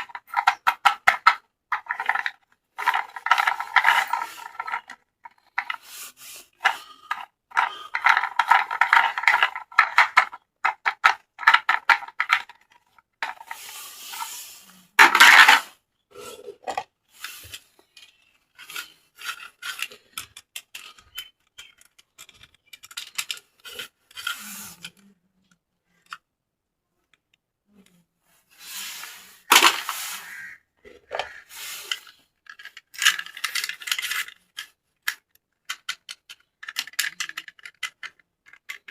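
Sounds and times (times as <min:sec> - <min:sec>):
toys clicking and scraping: 0:00.0 - 0:26.3, 0:27.0 - 0:38.9.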